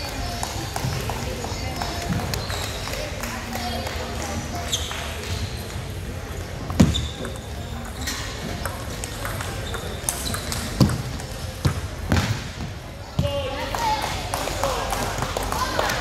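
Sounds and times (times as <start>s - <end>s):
murmur of voices: 0.0s - 16.0s.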